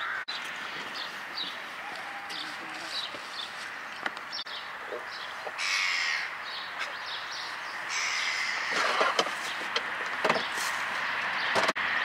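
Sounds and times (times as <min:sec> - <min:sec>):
bird calls: 0:00.0 - 0:11.6.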